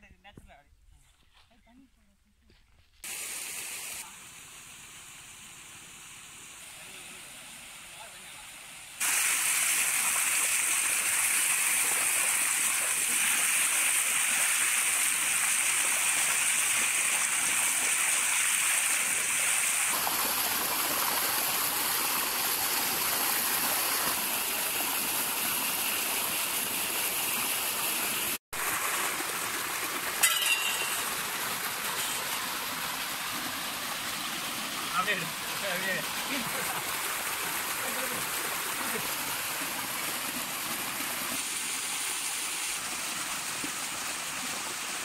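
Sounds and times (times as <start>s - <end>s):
water gushing onto stones: 9.0s - 45.0s.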